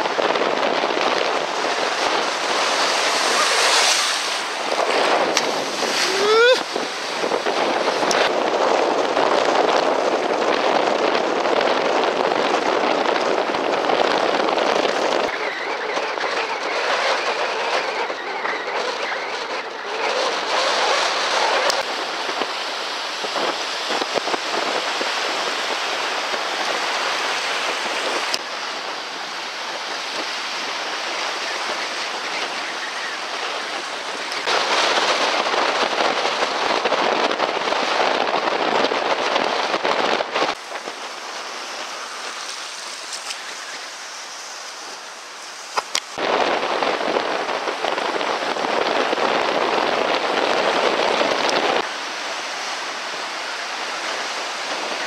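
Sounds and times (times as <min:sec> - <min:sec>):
choppy sea water: 0:00.0 - 0:55.0
wind: 0:00.0 - 0:55.0.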